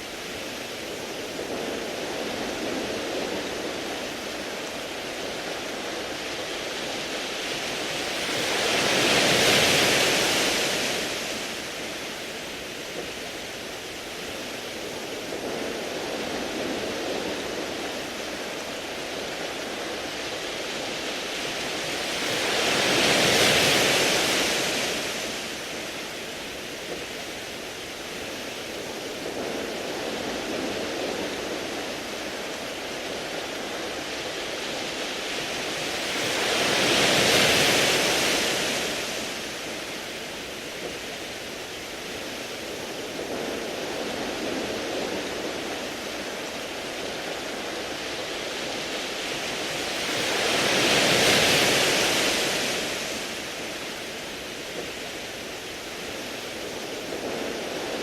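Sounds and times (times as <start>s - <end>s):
waves washing onto pebbles: 0.0s - 58.0s.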